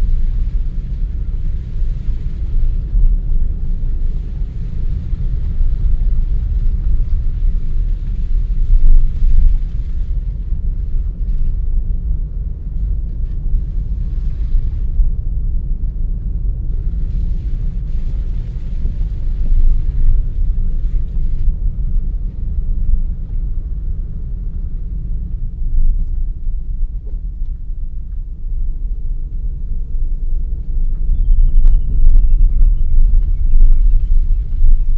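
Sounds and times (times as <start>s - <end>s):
car engine and tyres rumbling: 0.0s - 34.9s
road and wind hiss: 0.0s - 34.9s.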